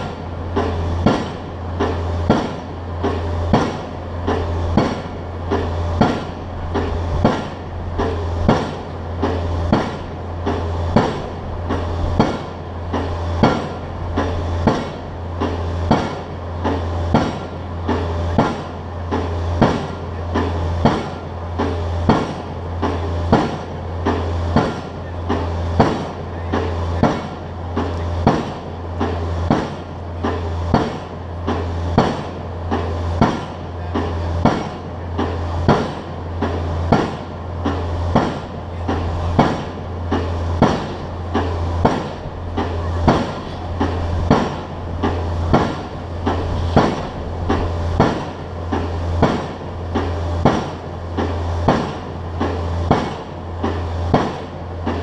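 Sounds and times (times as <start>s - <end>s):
pile driver strikes: 0.0s - 55.0s
rig low drone: 0.0s - 55.0s.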